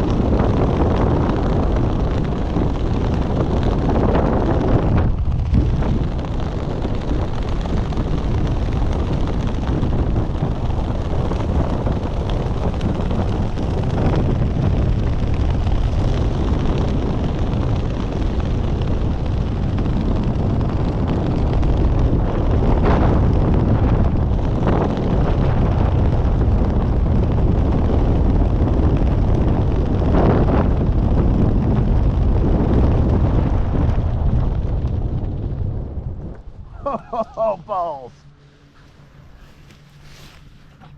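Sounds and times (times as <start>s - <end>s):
wind roaring over microphone: 0.0s - 40.9s.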